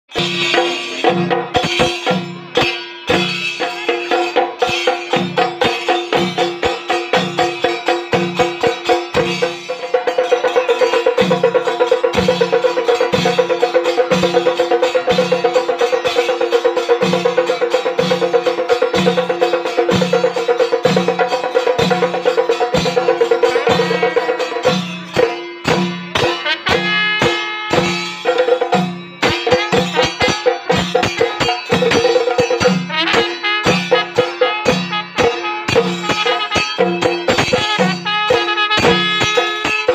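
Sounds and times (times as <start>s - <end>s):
drums beaten with sticks: 0.1s - 39.9s.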